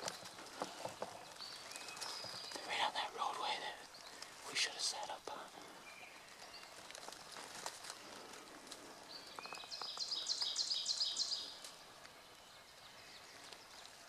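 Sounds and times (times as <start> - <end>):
faint woodland ambience: 0.0 - 14.0.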